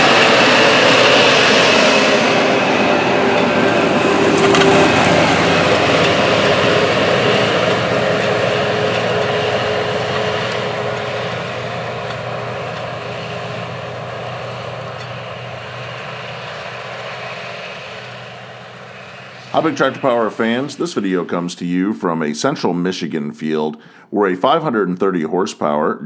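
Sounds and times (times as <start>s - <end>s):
tractor diesel engine under load: 0.0s - 22.1s.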